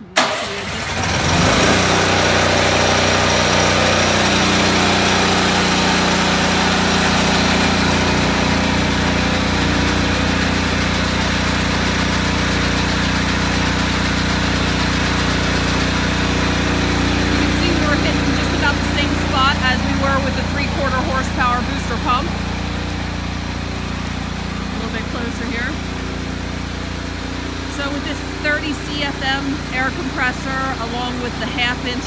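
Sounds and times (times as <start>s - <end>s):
air compressor running: 0.0s - 32.0s.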